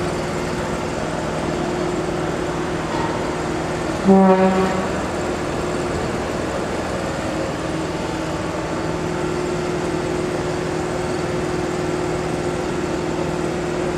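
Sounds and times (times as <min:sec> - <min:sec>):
machinery drone: 0:00.0 - 0:13.9.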